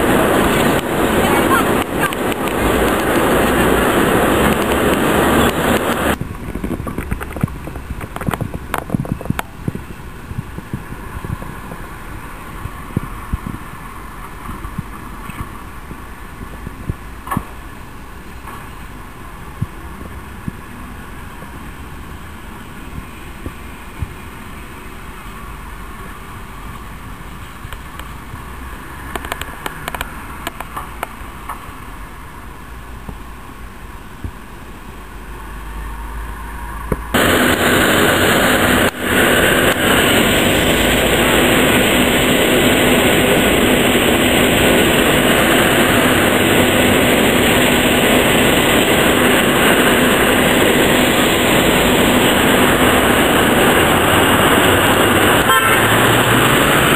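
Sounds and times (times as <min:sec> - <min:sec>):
loud steady rushing noise: 0:00.0 - 0:56.9
street traffic: 0:00.0 - 0:56.9.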